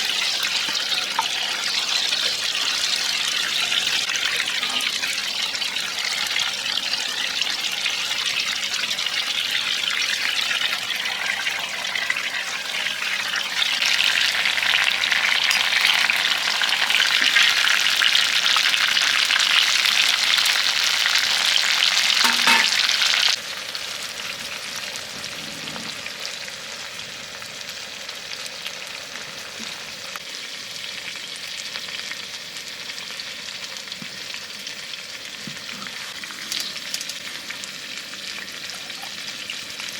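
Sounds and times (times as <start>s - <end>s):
food sizzling in frying: 0.0s - 39.9s.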